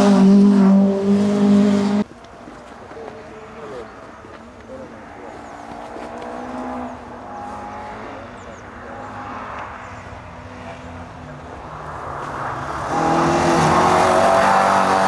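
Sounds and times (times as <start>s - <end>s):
rally car engine at high revs: 0.0s - 2.1s, 4.9s - 15.0s.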